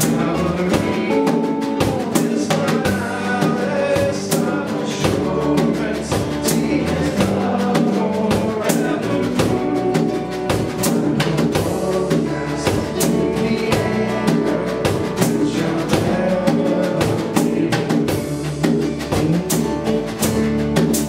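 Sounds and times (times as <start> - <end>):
drum kit beat: 0.0 - 21.0
live band playing: 0.0 - 21.0.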